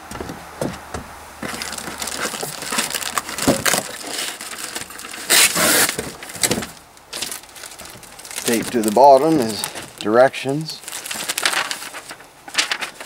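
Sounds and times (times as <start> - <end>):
packing material rustling: 1.4 - 13.0.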